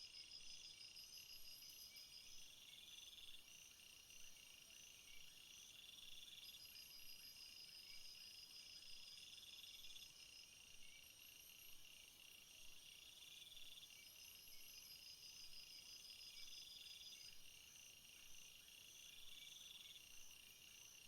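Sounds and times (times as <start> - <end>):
crickets and insects chirping: 0.0 - 21.0.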